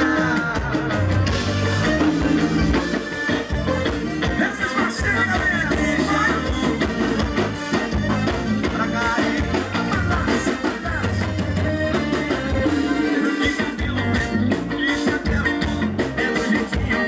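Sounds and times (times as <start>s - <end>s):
bass guitar: 0.0s - 17.0s
drums: 0.0s - 17.0s
man singing: 0.0s - 17.0s.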